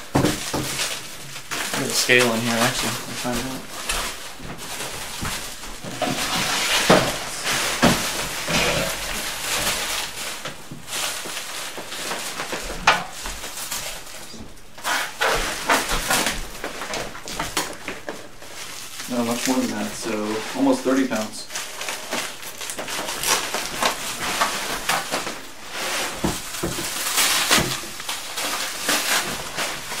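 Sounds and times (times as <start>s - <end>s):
plastic wrap crinkling: 0.0s - 30.0s.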